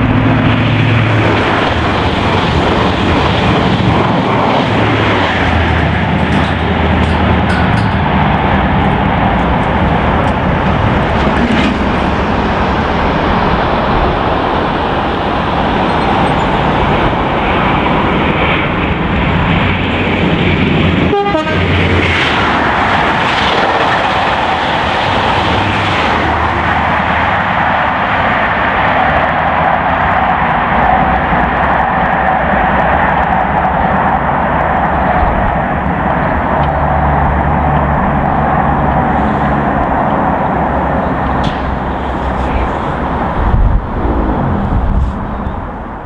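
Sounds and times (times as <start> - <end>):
steam train running: 0.0 - 46.0.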